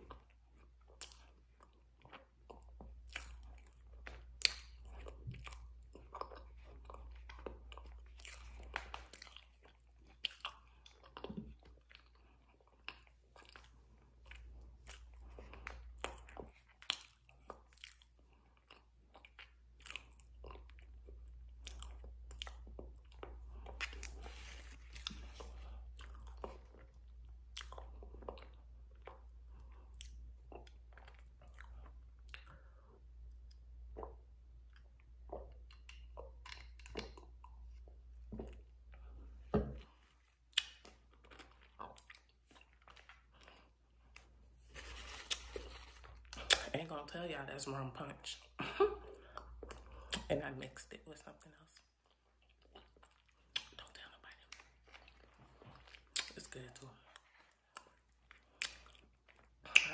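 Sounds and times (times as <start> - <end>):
chewing crunchy food: 0.0 - 46.8, 49.2 - 50.3, 51.4 - 59.9.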